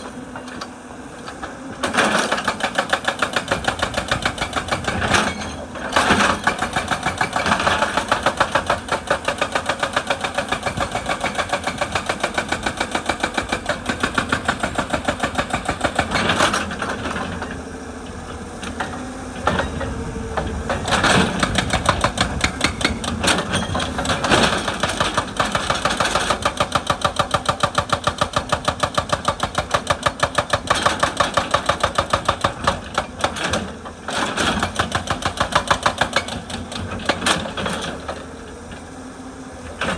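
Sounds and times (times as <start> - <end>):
hydraulic rock breaker hammering: 0.0 - 38.9
excavator engine running: 0.0 - 39.9.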